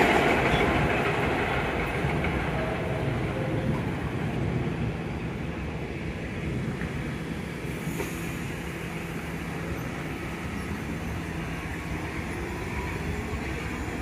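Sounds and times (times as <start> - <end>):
subway wheels rumbling on rail: 0.0 - 14.0.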